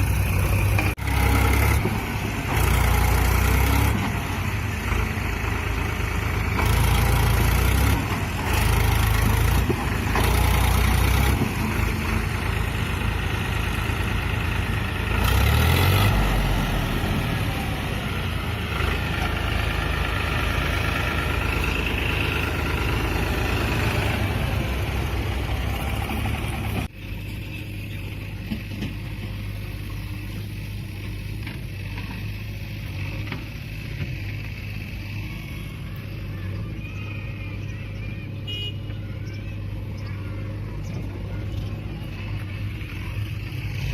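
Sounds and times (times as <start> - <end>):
tractor diesel engine revving: 0.0 - 37.8.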